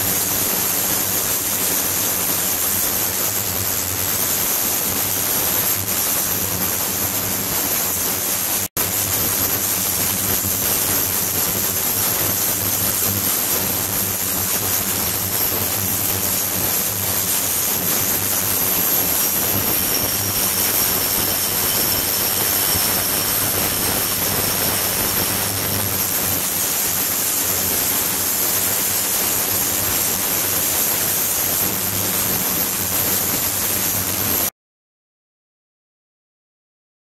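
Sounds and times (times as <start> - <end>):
ultrasonic cleaner hissing and whining: 0.0 - 34.4.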